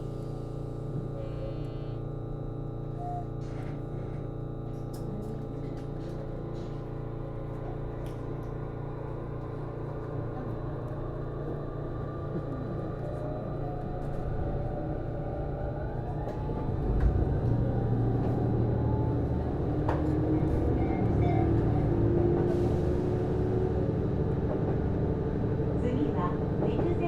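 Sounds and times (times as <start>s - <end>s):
low rumble of train: 0.0s - 27.0s.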